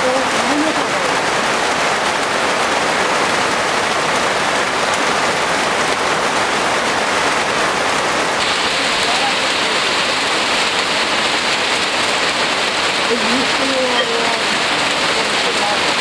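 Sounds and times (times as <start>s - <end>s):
heavy rain on wet ground: 0.0s - 16.0s.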